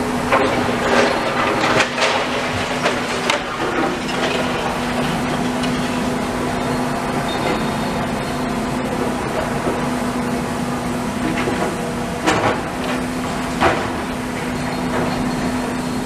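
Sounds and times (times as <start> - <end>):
machinery engine hum: 0.0 - 16.0.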